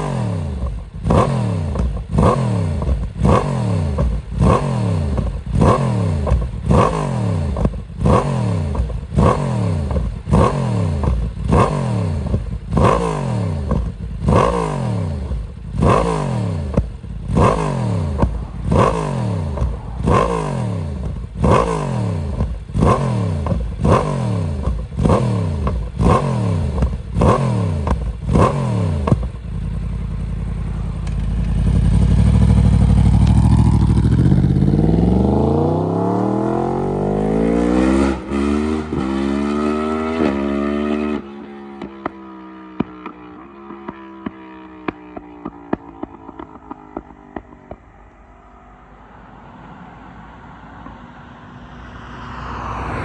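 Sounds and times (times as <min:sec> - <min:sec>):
motorcycle engine revving: 0:00.0 - 0:49.2
motorcycle accelerating: 0:00.0 - 0:53.0.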